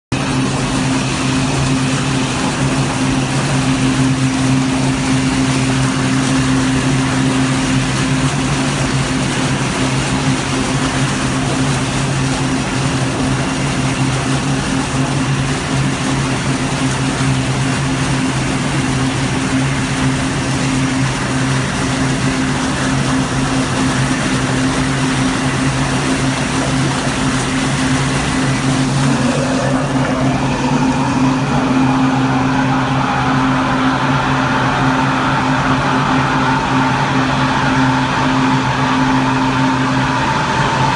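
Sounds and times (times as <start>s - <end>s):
low hum: 0.1s - 40.9s
steam rushing into water: 0.2s - 40.9s.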